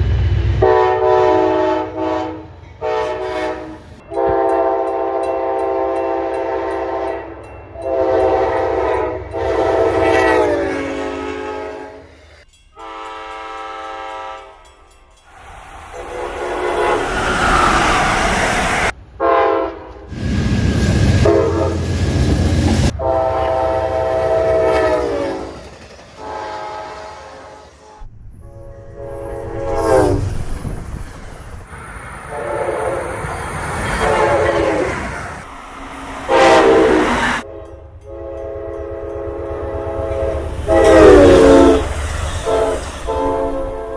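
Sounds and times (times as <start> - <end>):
train rumbling past: 0.0 - 43.9
locomotive air horns: 0.6 - 14.7, 15.8 - 30.5, 32.2 - 43.9.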